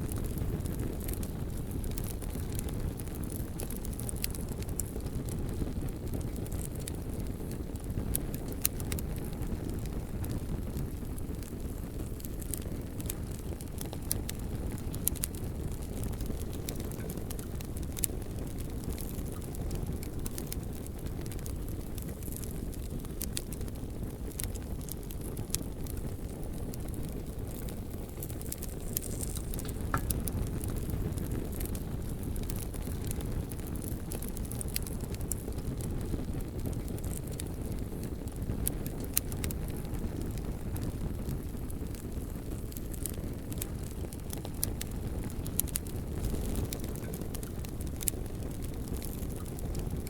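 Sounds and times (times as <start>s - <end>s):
bonfire logs crackling: 0.0s - 50.0s
low fire rumble: 0.0s - 50.0s.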